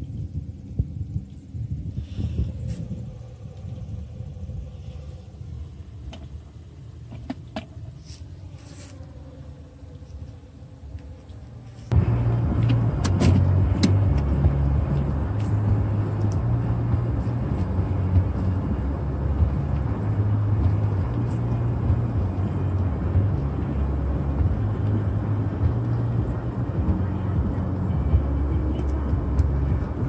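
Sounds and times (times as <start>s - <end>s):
wind buffeting microphone: 0.0s - 8.5s, 9.8s - 30.0s.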